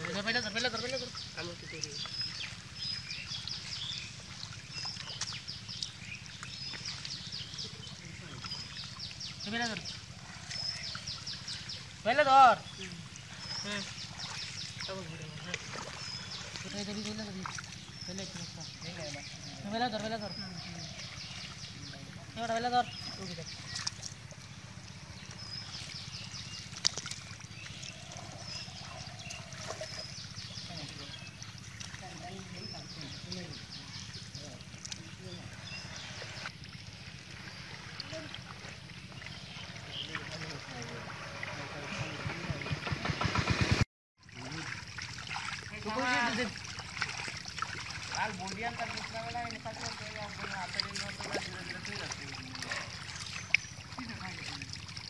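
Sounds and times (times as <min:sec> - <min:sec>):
birds chirping: 0:00.0 - 0:55.0
shallow water sloshing: 0:00.0 - 0:55.0.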